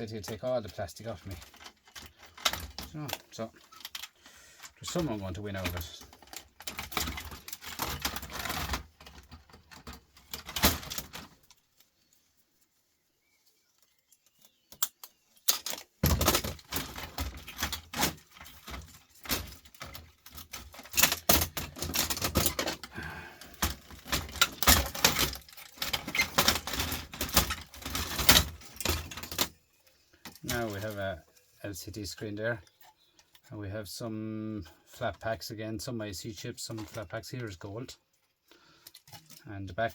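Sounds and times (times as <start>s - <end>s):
small metal parts clattering: 0.0s - 11.9s, 14.1s - 33.5s, 36.6s - 39.9s.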